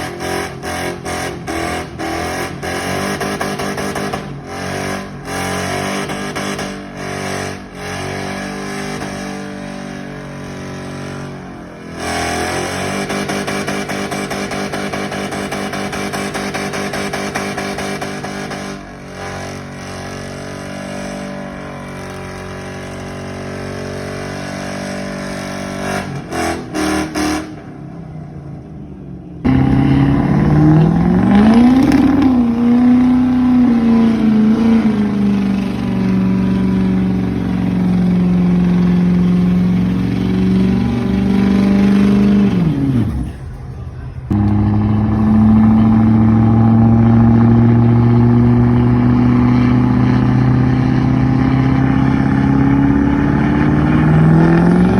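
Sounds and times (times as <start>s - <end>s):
truck engines revving: 0.0s - 54.9s.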